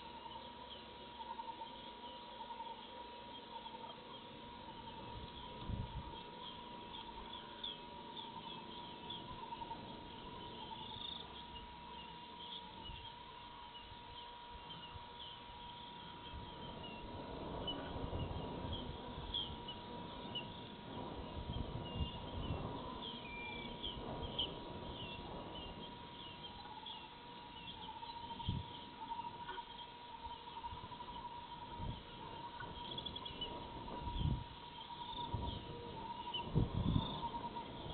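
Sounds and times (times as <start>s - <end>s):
insects and birds chirping: 0.0s - 37.9s
low rumbling noise: 0.0s - 37.9s.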